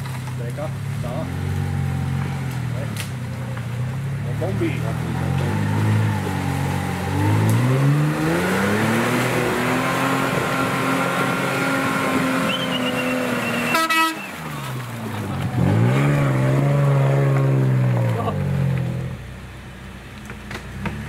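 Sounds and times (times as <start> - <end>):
off-road engine revving: 0.0 - 21.0.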